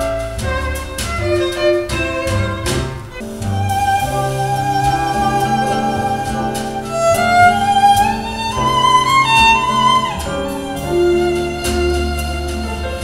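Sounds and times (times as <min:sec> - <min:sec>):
instrumental music over speakers: 0:00.0 - 0:13.0.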